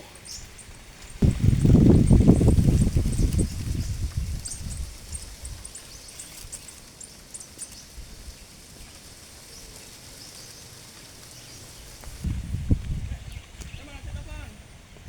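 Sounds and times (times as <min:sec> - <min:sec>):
wind rumbling on microphone: 0:00.3 - 0:15.0.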